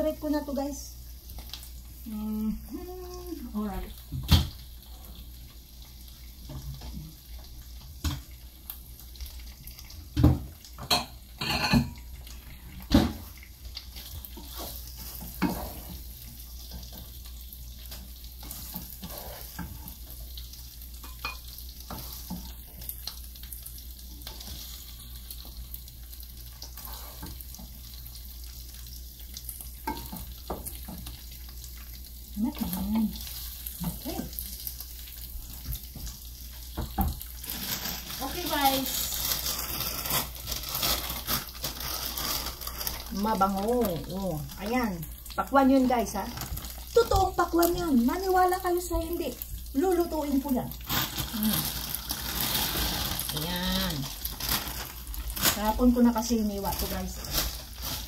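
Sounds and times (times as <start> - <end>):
meat sizzling in a pot: 0.0 - 58.0.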